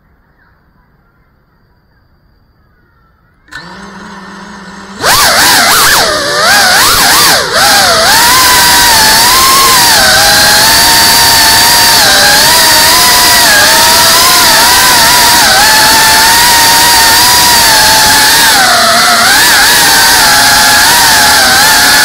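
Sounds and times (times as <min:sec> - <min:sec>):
quadcopter motors whining: 0:03.5 - 0:22.0.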